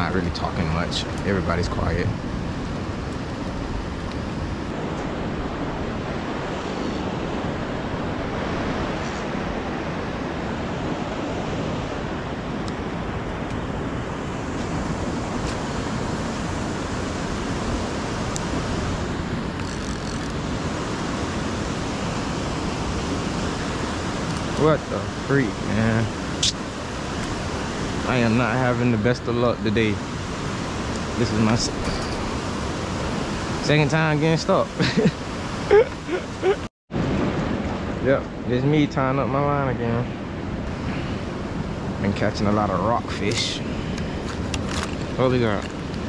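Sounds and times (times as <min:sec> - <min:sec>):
turbulent water rushing: 0:00.0 - 0:46.0.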